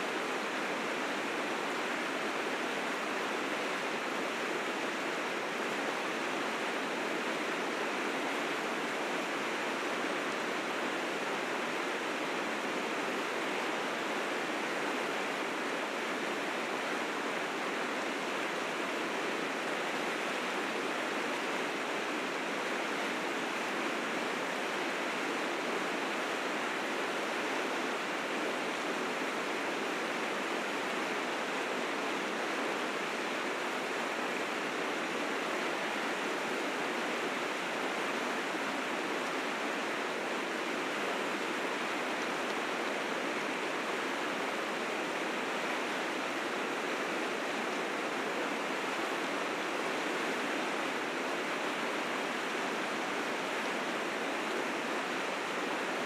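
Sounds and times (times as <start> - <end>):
river rapids rushing: 0.0 - 56.0.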